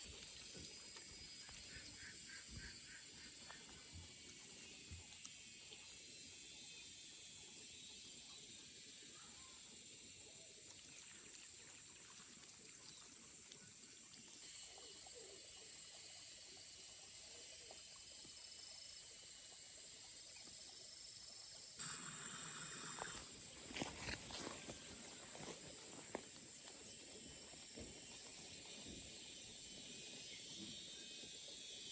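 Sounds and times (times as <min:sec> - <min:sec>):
high insect drone: 0:00.0 - 0:11.0, 0:12.0 - 0:31.9.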